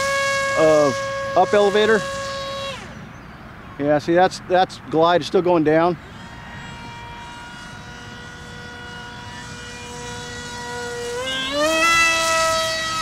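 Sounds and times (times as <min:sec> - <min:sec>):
model plane motor whine: 0:00.0 - 0:03.3, 0:05.8 - 0:13.0.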